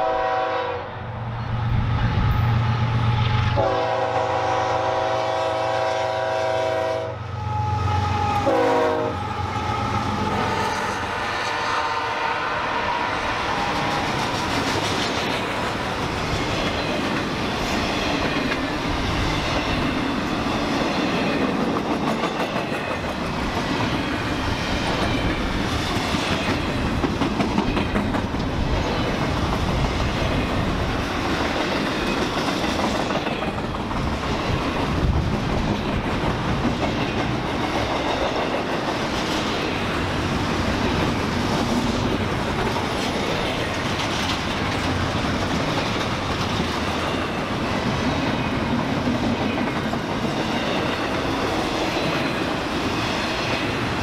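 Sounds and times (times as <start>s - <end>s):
train cars rolling on track: 0.0s - 54.0s.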